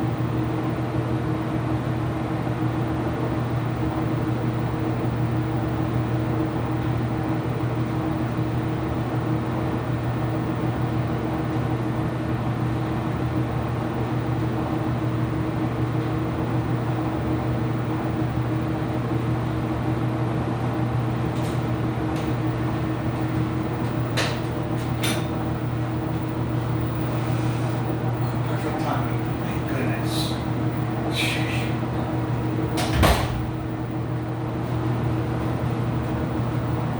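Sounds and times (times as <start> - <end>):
washing machine humming: 0.0 - 36.9.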